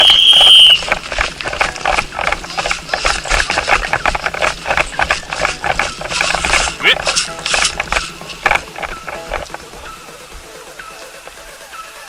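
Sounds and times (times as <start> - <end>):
rattling and clicking: 0.0 - 11.6.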